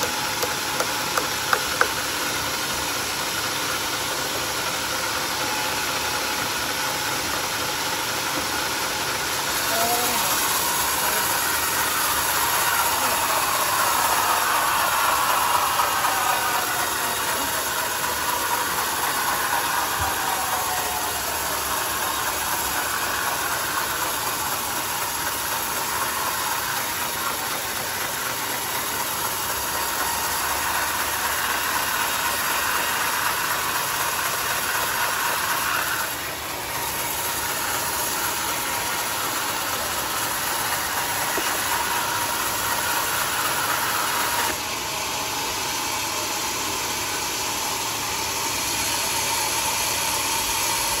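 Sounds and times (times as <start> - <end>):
band sawmill cutting log: 0.0 - 51.0.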